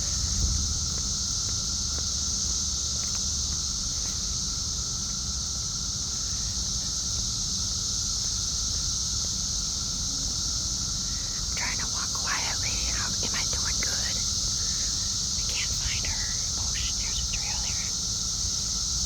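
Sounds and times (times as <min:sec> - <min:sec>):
cicadas droning: 0:00.0 - 0:19.0.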